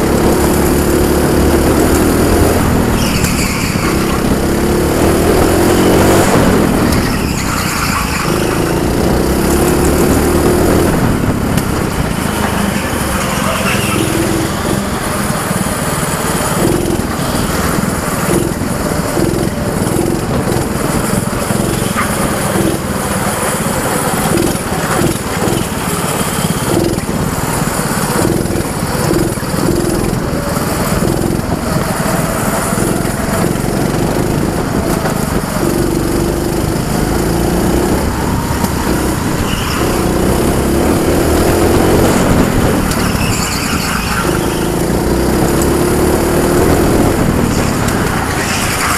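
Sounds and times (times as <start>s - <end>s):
go-kart engine running: 0.0s - 48.9s.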